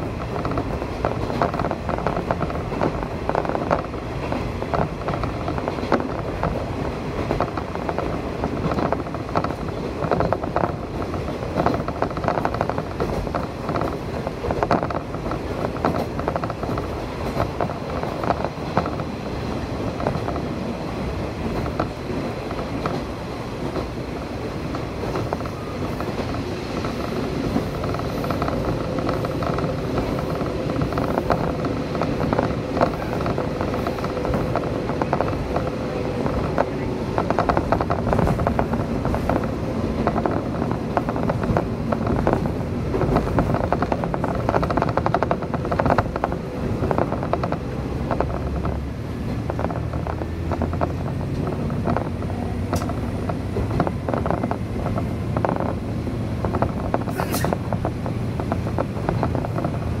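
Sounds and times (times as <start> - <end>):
train wheels clattering on track: 0.0 - 60.0.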